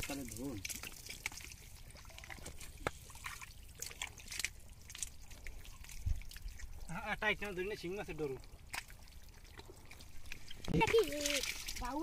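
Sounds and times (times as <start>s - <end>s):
wet squelches in mud: 0.0s - 12.0s.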